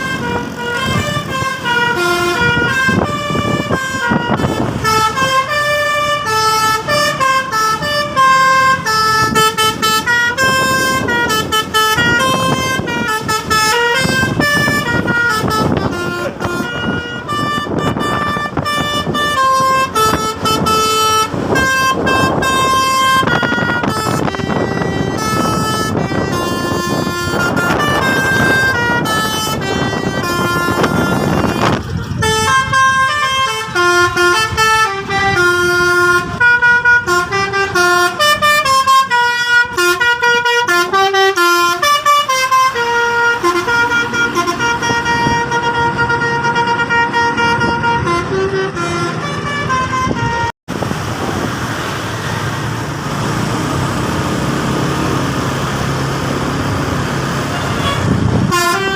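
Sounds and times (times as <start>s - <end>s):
multi-trumpet air horn melody: 0.0s - 50.6s, 57.1s - 58.9s.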